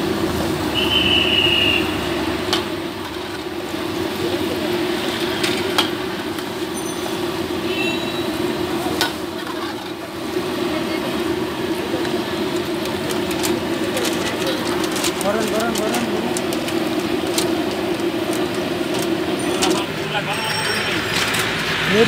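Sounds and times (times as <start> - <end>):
oil bubbling and sizzling: 0.0 - 22.0.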